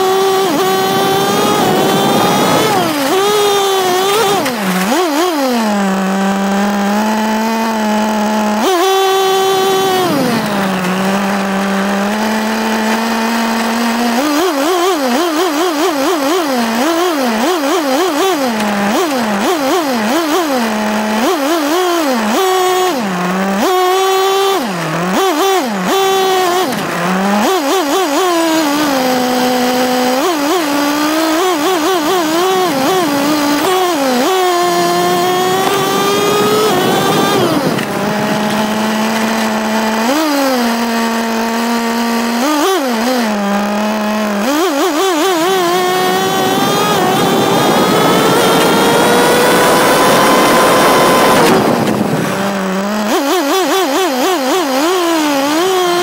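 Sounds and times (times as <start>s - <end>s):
road and wind rush: 0.0s - 56.0s
small engine revving: 0.0s - 56.0s.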